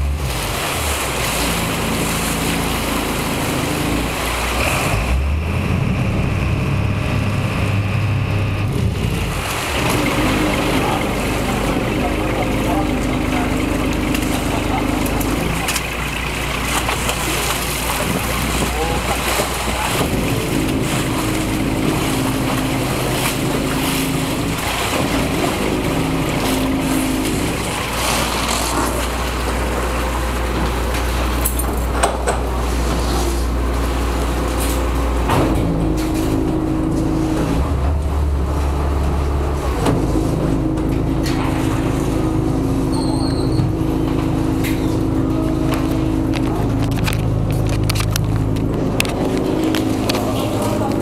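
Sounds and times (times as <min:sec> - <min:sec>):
ferry engine humming: 0:00.0 - 0:51.0.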